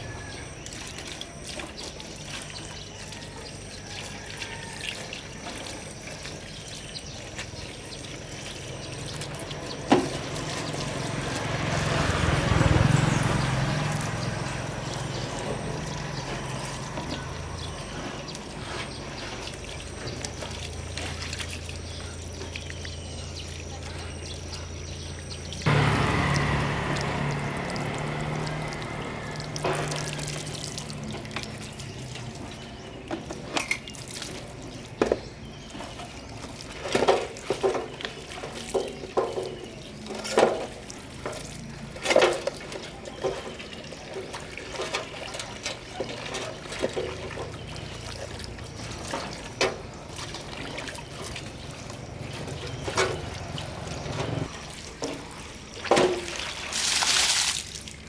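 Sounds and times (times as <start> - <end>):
water running and trickling: 0.0 - 58.0.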